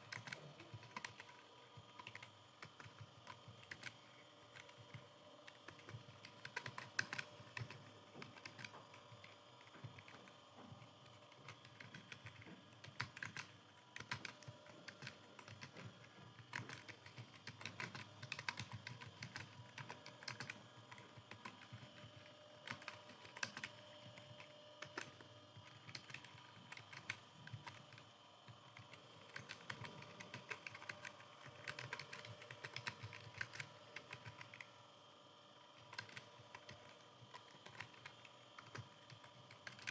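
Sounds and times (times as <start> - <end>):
fast keyboard typing: 0.0 - 34.8, 35.7 - 39.9.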